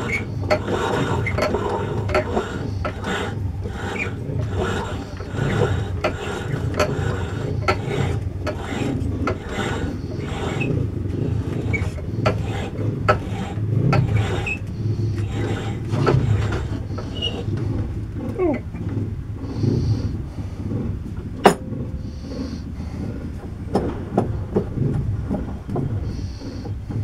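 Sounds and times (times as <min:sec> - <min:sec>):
lathe humming: 0:00.0 - 0:27.0.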